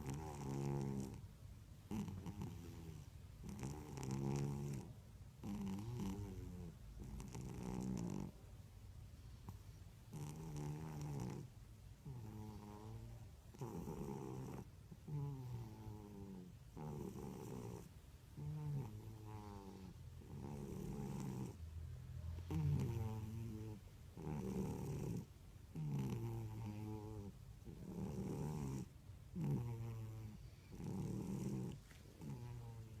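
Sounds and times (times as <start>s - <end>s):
cat snoring: 0.0s - 1.2s, 1.9s - 8.4s, 9.5s - 21.8s, 22.4s - 33.0s.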